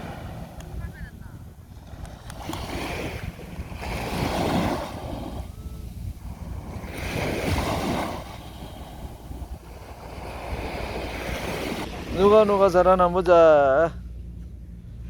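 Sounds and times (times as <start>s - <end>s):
waves breaking on a beach: 0.0s - 14.0s
wind rumble on microphone: 0.0s - 15.0s.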